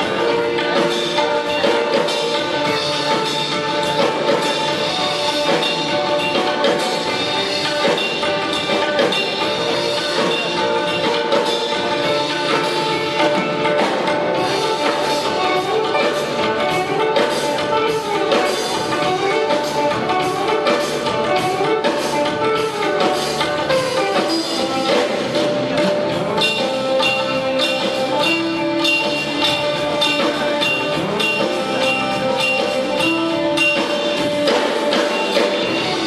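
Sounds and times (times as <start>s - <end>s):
busy percussion rhythm: 0.0s - 36.0s
rock band playing: 0.0s - 36.0s.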